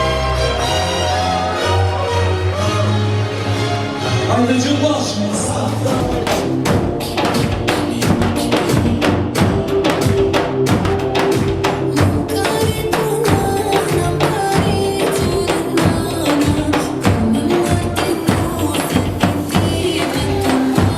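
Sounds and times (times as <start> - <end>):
dance music: 0.0 - 20.9.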